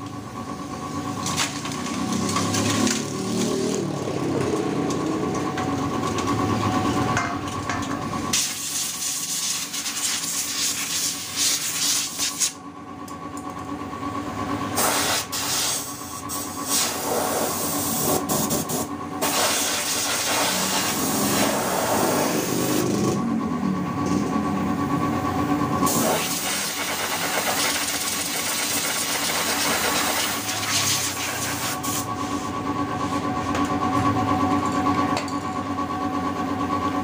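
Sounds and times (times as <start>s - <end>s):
steady high-pitched hum: 0.0s - 1.7s, 3.9s - 37.0s.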